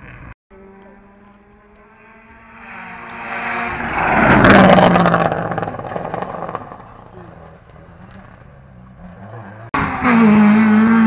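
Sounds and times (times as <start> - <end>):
rally car passing at speed: 0.6 - 11.0.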